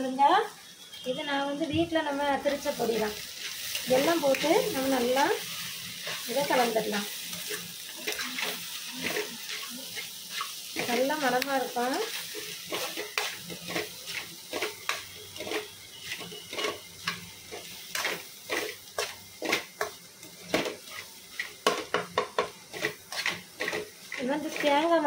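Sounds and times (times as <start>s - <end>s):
food sizzling: 0.0s - 25.0s
spoon scraping metal pan: 2.5s - 25.0s.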